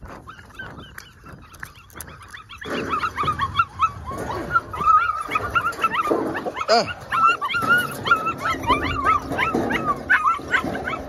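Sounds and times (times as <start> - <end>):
puppies whining and yipping: 0.0 - 11.0.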